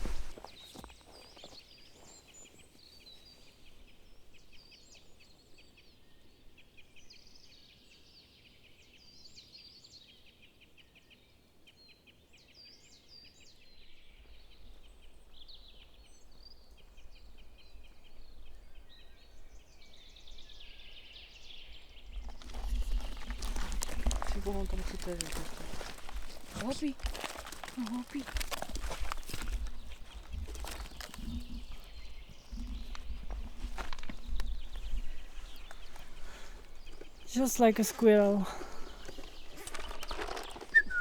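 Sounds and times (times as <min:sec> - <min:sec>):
songbirds singing: 0:00.0 - 0:41.0.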